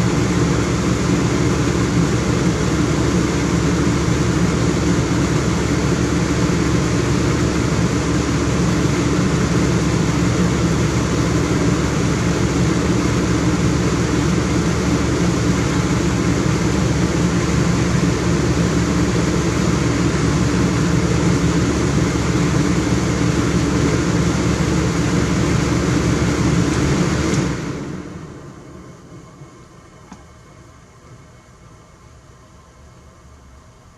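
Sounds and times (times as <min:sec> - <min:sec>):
air conditioner hum: 0:00.0 - 0:33.9.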